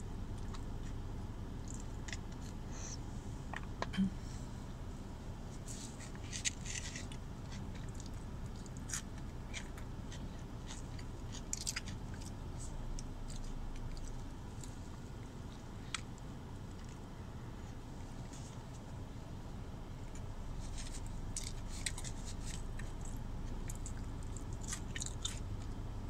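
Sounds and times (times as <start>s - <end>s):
person chewing food: 0.3s - 2.7s, 5.8s - 18.9s, 20.0s - 25.8s.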